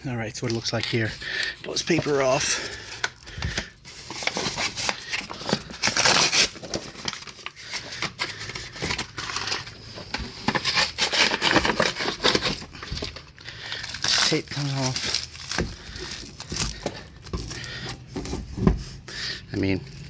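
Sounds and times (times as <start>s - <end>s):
paper and tape peeled and crumpled: 0.0s - 18.7s.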